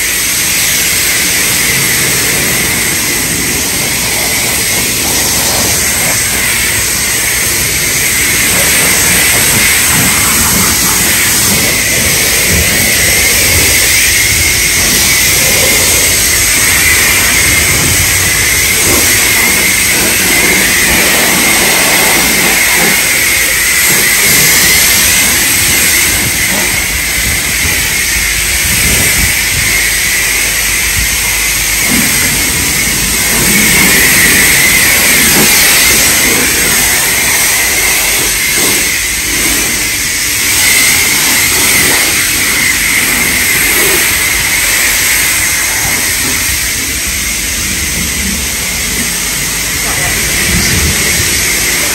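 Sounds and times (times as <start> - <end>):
high-pressure water spray hissing: 0.0 - 51.9.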